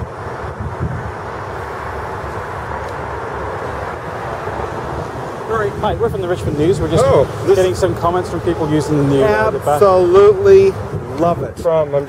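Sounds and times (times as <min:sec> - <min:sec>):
road traffic rushing hiss: 0:00.0 - 0:12.0
wind buffeting microphone: 0:00.0 - 0:12.0.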